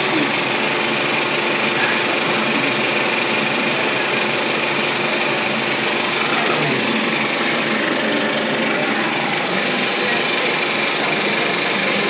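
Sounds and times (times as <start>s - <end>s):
film projector rattling: 0.0s - 12.0s.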